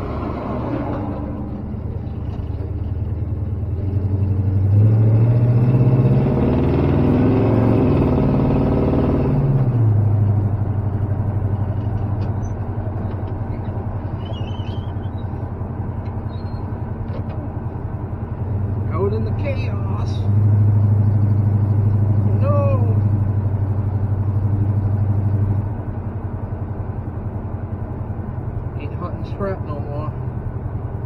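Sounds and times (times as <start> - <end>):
truck engine while driving: 0.0 - 31.0.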